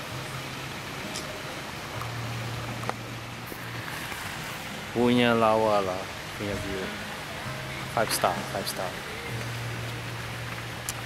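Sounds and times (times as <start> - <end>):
low steady hum: 0.0 - 11.0
outdoor noise wash: 0.0 - 11.0.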